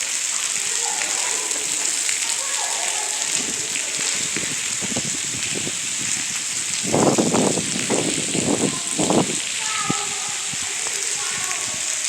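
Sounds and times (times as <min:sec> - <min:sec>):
footsteps splashing through water: 0:00.0 - 0:12.0
water dripping and running: 0:00.0 - 0:12.0.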